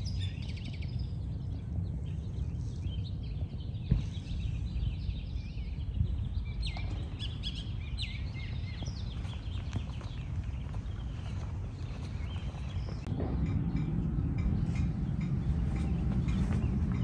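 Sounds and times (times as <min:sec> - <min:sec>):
birds chirping: 0:00.0 - 0:17.0
low background rumble: 0:00.0 - 0:17.0.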